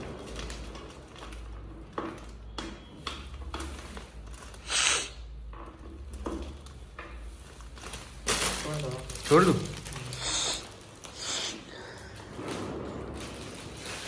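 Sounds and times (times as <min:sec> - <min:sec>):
plastic wrapping rustling: 0:00.0 - 0:14.0.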